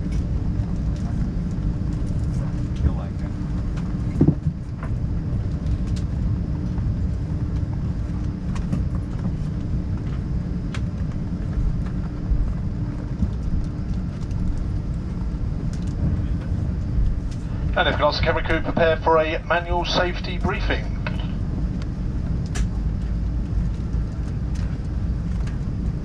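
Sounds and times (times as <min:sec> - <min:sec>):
aircraft cabin rumble: 0:00.0 - 0:26.0
faint steady hum: 0:00.0 - 0:26.0.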